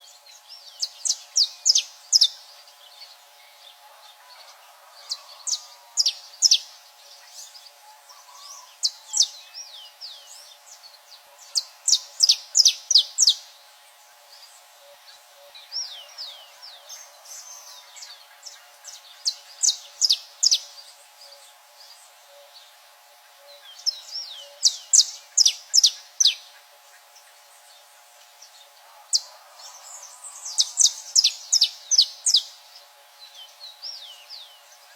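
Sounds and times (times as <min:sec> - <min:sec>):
birds chipping and whistling: 0:00.0 - 0:34.9.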